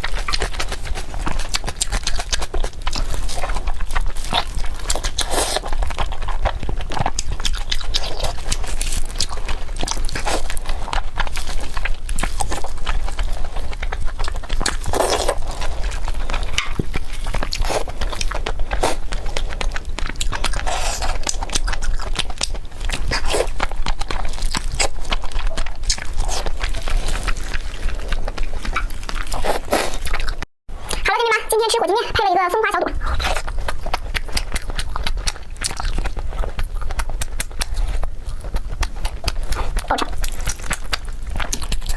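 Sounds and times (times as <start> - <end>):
person chewing: 0.0 - 41.9.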